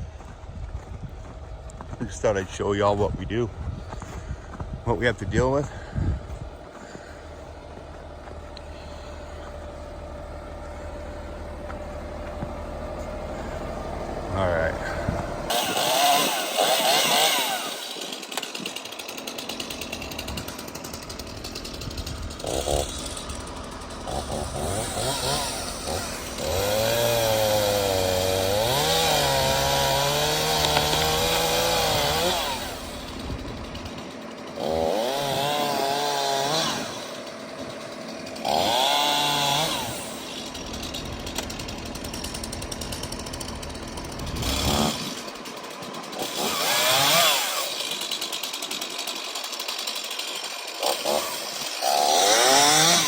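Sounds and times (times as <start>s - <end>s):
chainsaw idling and revving: 0.0s - 53.0s.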